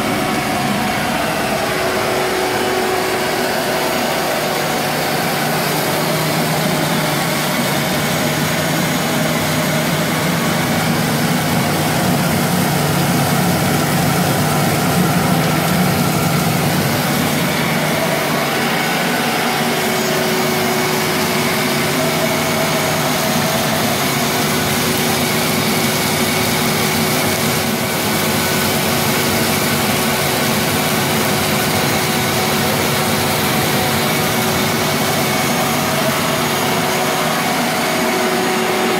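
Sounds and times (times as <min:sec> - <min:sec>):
shop vac running: 0:00.0 - 0:38.9
steady hum: 0:00.0 - 0:38.9.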